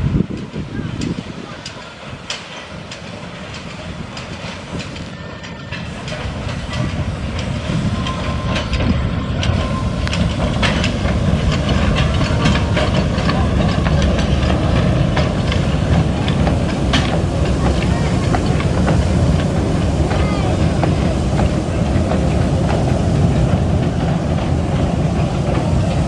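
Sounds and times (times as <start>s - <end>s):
steam train passing: 0.0s - 26.0s
wheels clicking on rail: 0.0s - 26.0s.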